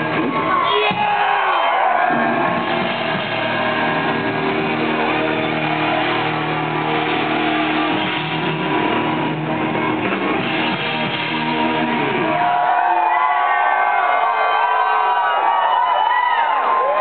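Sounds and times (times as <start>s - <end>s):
distorted electric guitars: 0.0s - 14.3s
rock band playing loud: 0.0s - 14.3s.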